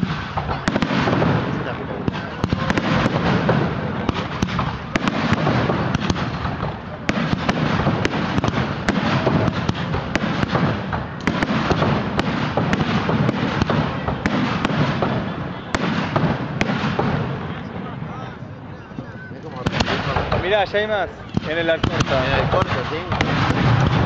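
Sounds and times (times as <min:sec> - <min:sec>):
fireworks bursts and crackling: 0:00.0 - 0:24.0.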